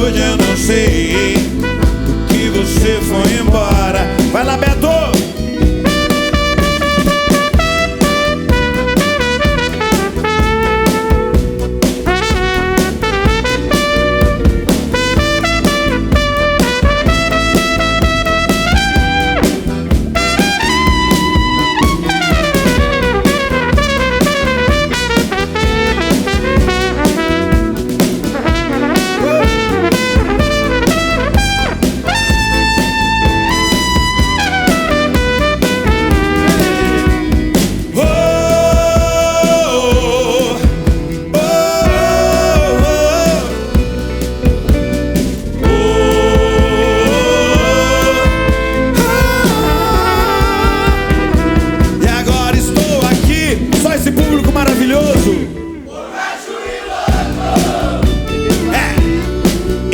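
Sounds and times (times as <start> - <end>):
trumpet solo: 0.0 - 53.7
rock band playing: 0.0 - 59.9.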